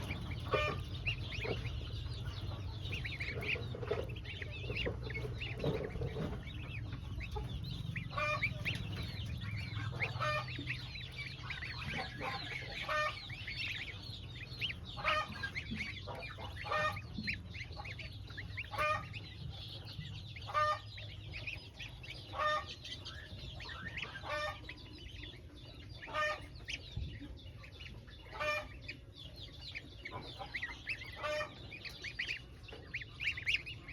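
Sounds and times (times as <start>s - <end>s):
low steady rumble: 0.0s - 33.9s
poultry chirping and clucking: 0.0s - 33.9s.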